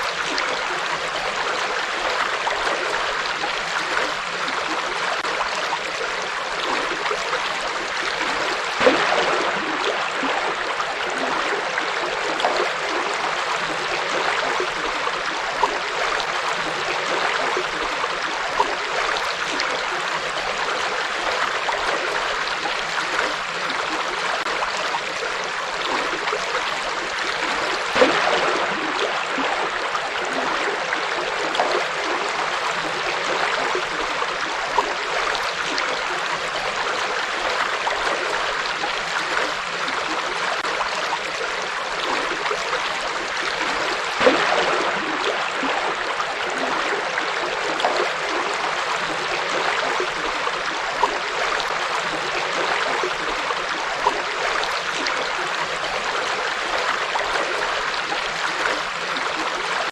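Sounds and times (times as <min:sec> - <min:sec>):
water splashing and gurgling: 0:00.0 - 0:59.9.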